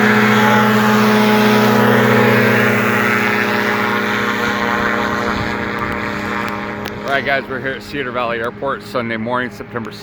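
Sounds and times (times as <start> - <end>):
powered parachute engine drone: 0.0 - 10.0.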